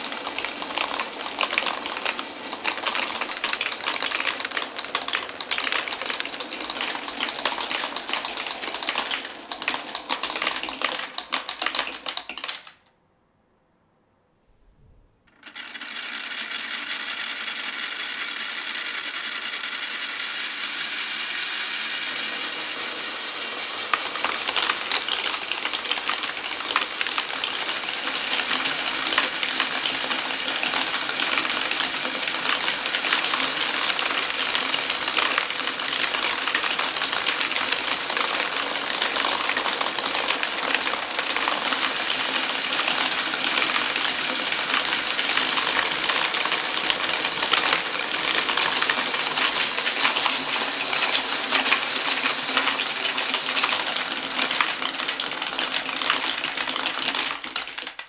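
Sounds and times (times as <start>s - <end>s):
marbles clattering along tracks: 0.0s - 12.9s, 15.3s - 58.0s.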